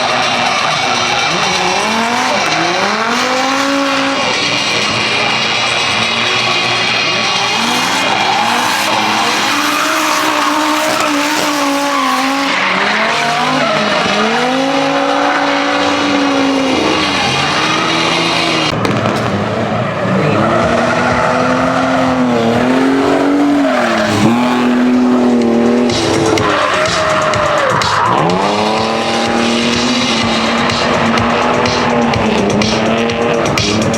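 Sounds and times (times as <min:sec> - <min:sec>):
car engine revving hard: 0:00.0 - 0:33.9
tires squealing: 0:00.0 - 0:33.9.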